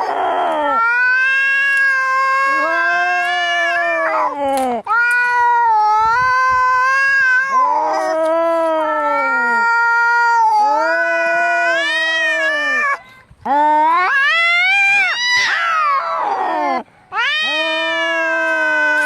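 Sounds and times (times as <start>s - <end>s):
cats yowling in a fight: 0.0s - 13.0s, 13.6s - 19.0s.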